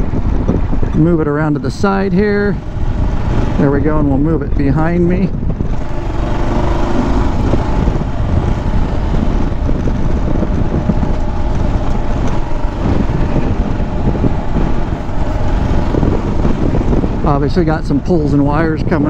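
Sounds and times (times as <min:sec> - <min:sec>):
motorcycle engine running: 0:00.0 - 0:19.0
wind rumbling on microphone: 0:00.0 - 0:19.0.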